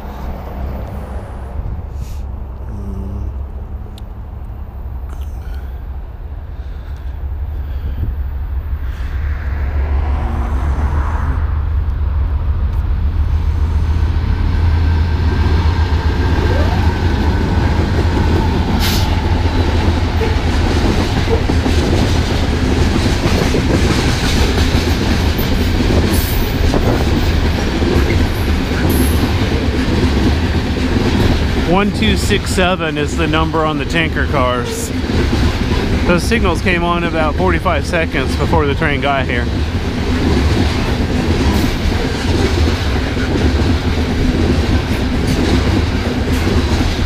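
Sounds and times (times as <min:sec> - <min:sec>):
diesel locomotive engine rumble: 0:00.0 - 0:47.0.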